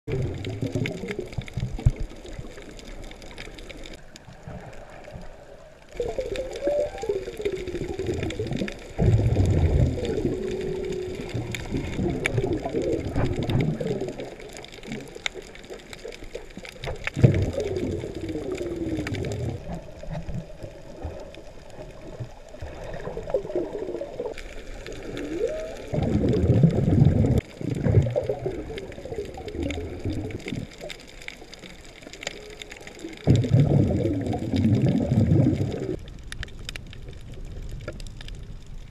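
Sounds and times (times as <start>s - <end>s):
water gurgling and bubbling: 0.0s - 36.2s
underwater rush and hiss: 0.1s - 38.6s.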